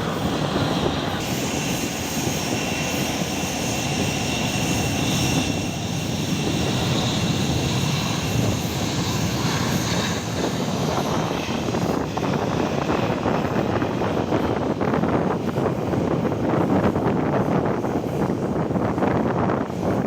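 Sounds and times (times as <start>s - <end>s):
jet engine rumble: 0.0s - 20.0s
jet engine whine: 0.0s - 20.0s.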